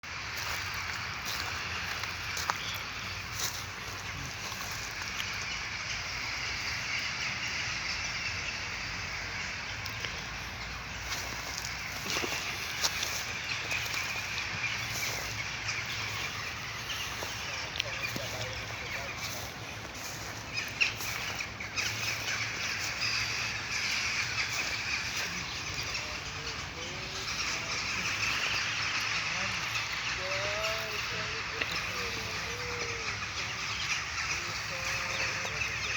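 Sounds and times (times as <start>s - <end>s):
small birds chirping faintly: 0.0s - 35.9s
crows cawing: 0.1s - 35.9s.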